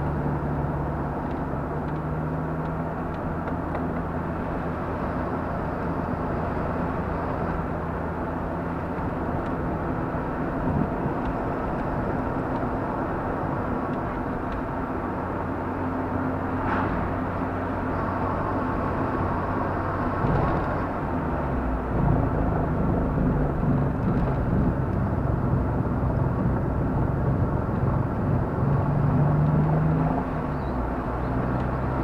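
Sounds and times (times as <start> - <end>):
car engine hum and tyre noise: 0.0 - 32.0.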